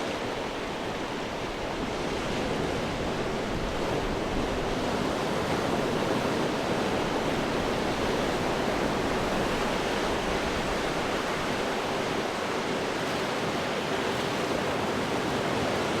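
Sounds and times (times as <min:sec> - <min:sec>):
ocean surf washing against rocks: 0:00.0 - 0:16.0.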